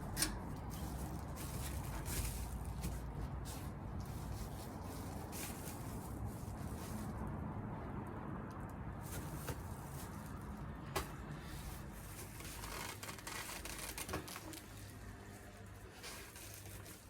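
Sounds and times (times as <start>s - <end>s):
cover crinkling and rustling: 0.2s - 7.2s, 9.0s - 17.0s.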